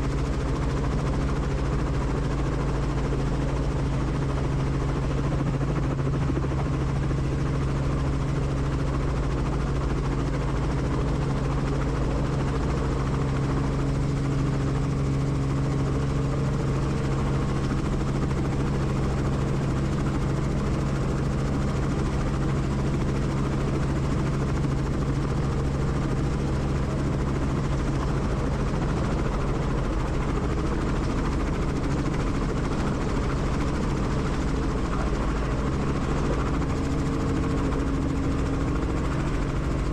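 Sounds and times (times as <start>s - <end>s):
helicopter cabin hum: 0.0s - 39.9s.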